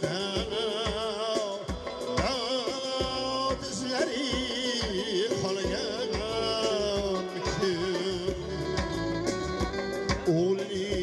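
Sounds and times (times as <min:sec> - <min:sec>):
man singing into microphone: 0:00.0 - 0:11.0
plucked lute: 0:00.0 - 0:11.0
steady percussive beat: 0:00.0 - 0:11.0.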